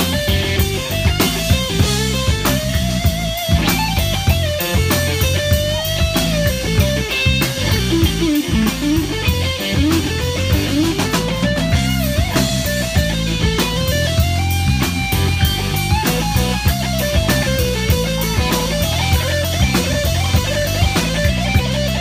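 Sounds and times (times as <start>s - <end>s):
electric guitar lead: 0.0s - 22.0s
live rock band: 0.0s - 22.0s.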